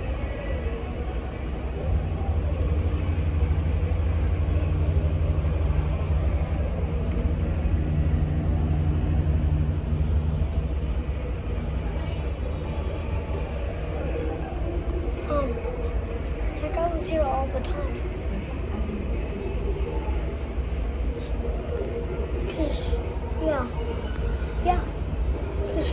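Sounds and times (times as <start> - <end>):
ship engine rumble: 0.0 - 25.9.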